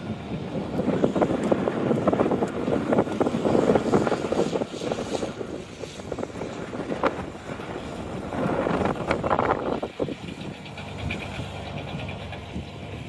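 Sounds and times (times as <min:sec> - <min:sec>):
roar of flames and wind: 0:00.0 - 0:13.0
fire crackling and popping: 0:00.1 - 0:12.9.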